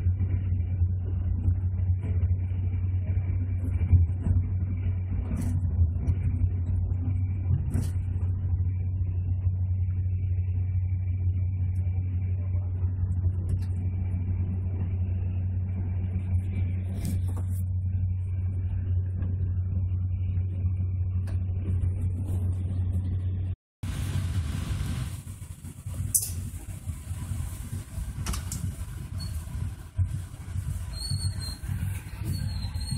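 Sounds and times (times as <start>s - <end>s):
train rumbling from inside: 0.0s - 32.9s.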